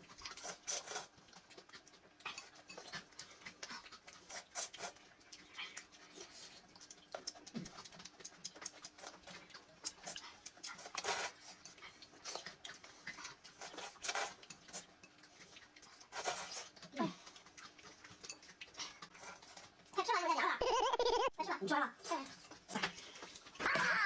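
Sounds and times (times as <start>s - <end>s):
wet chewing and lip-smacking: 0.0s - 20.0s, 22.2s - 23.8s.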